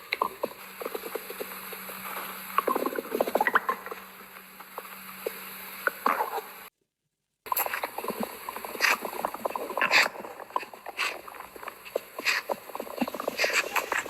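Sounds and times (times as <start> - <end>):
faint steady hum: 0.0 - 6.7, 7.5 - 14.0
stomach gurgling: 0.0 - 6.7, 7.5 - 14.0.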